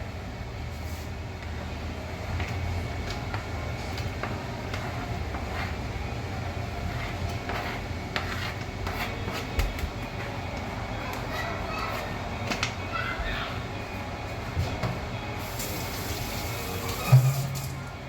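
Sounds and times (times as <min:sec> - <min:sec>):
range hood fan humming: 0:00.0 - 0:18.0.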